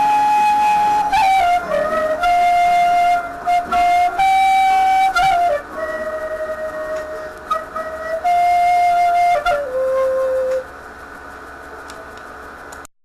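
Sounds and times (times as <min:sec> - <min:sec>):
flute playing slow melody: 0:00.0 - 0:10.8
backing track: 0:00.0 - 0:10.9.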